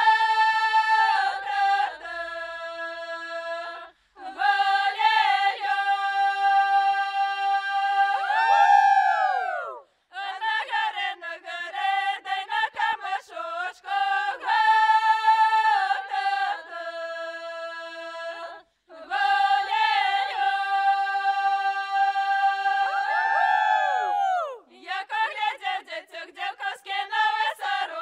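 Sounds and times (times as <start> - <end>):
women singing a cappella: 0.0 - 28.0.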